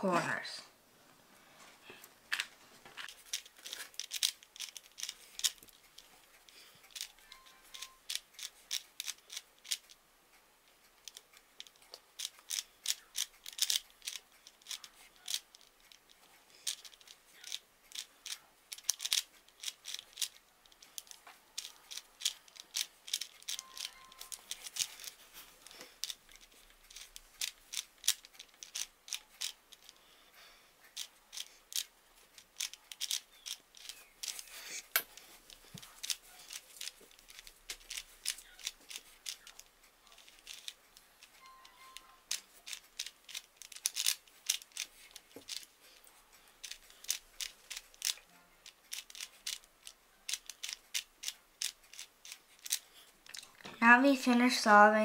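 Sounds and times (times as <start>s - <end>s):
puzzle cube clicking: 3.0s - 10.0s, 11.0s - 30.1s, 30.9s - 45.7s, 46.6s - 53.5s.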